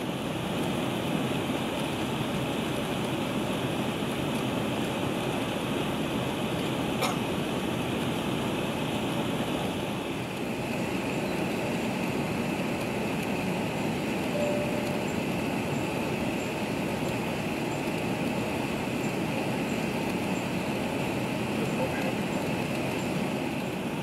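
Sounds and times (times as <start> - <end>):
aircraft engines at low thrust: 0.0 - 24.0.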